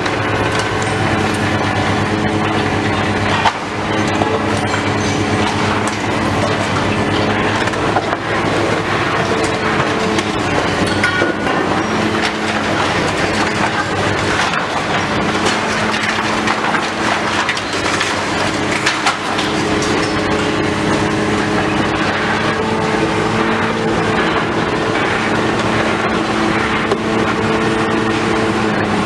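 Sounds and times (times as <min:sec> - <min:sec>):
debris crunching and cracking: 0:00.0 - 0:29.0
demolition machinery engine drone: 0:00.0 - 0:29.0.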